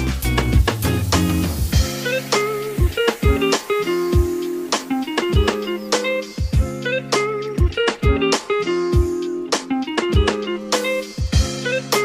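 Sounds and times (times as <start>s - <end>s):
drum beat: 0.0s - 6.8s, 7.4s - 11.5s
guitar melody: 0.0s - 12.0s.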